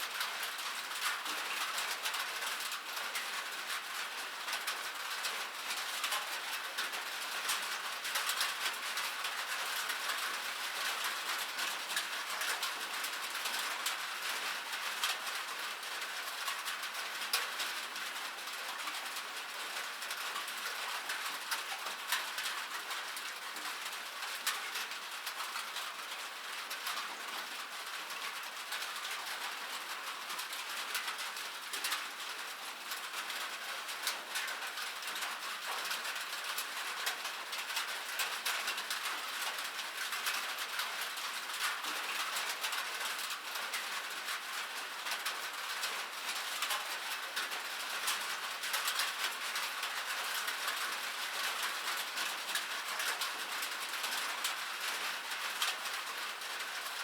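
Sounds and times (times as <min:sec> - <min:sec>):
rain on metal surface: 0:00.0 - 0:57.0.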